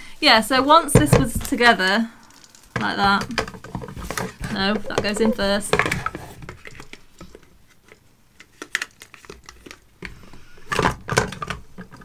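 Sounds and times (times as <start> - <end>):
plastic parts clicking and rustling: 1.0 - 12.0.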